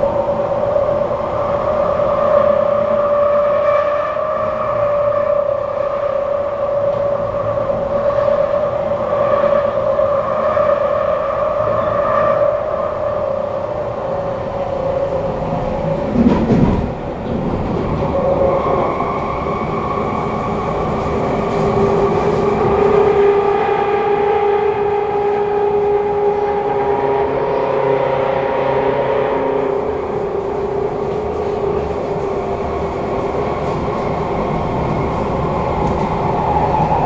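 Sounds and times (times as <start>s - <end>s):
train traction inverter whine: 0.0s - 37.0s.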